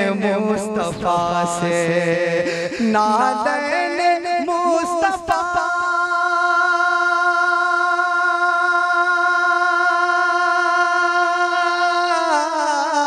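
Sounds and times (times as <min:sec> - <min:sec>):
man singing long held note: 0:00.0 - 0:13.0.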